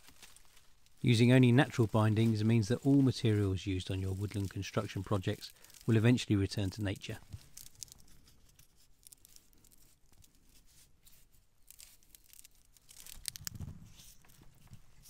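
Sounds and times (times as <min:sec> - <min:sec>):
wood rod crackling and creaking: 0:00.0 - 0:15.0.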